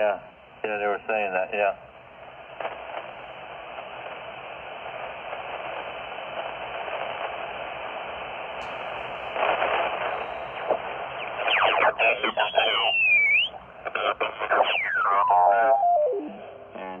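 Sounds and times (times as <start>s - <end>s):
radio band noise hiss: 0.0s - 17.0s.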